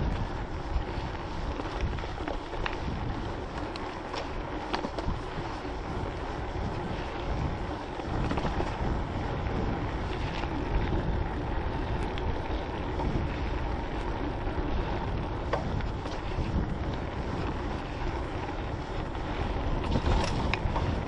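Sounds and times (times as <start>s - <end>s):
bike tyre noise: 0.0s - 21.0s
wind buffeting microphone: 0.0s - 21.0s.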